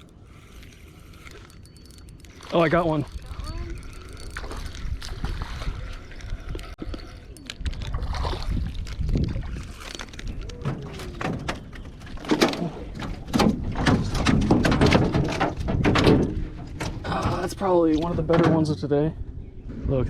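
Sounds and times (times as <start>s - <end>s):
water sloshing: 0.0s - 18.7s
wind buffeting microphone: 1.6s - 20.0s.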